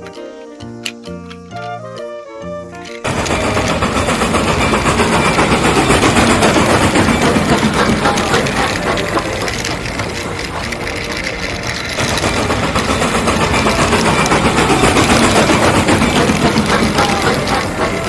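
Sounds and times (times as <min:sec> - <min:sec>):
toy car whirring and rattling: 0:00.0 - 0:02.1, 0:02.7 - 0:18.0.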